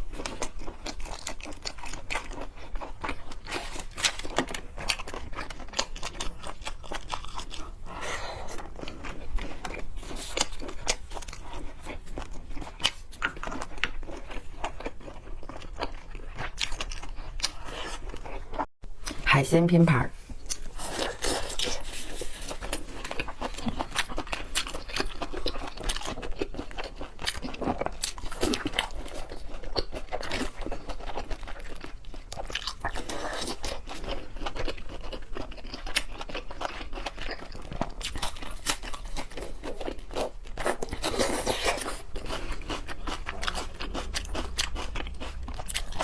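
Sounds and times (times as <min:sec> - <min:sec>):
person biting and chewing: 0:00.0 - 0:18.6, 0:20.4 - 0:46.0.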